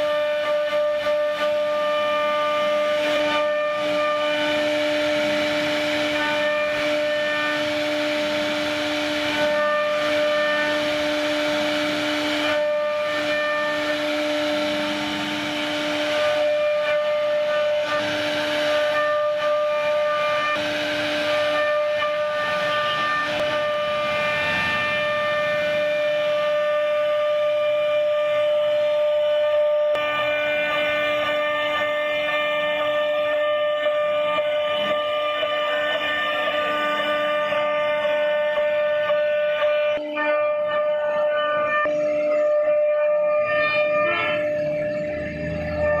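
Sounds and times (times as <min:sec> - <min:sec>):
router spindle whining: 0:00.0 - 0:46.0.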